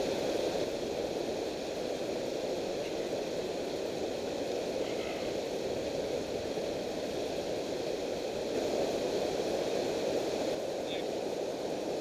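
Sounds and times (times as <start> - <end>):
water rushing over dam: 0.0 - 12.0.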